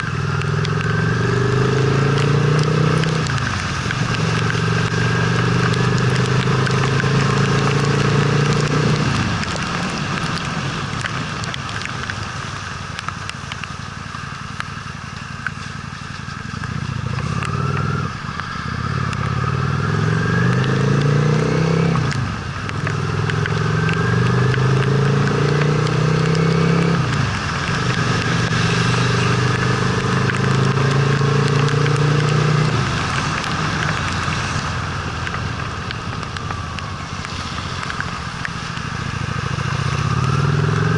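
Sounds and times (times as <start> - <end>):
wind and wet road hiss: 0.0 - 40.9.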